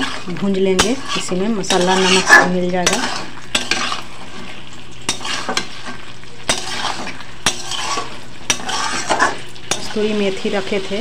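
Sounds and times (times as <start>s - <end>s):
metal spatula scraping pan: 0.0s - 10.2s
potatoes sizzling in pan: 0.0s - 11.0s.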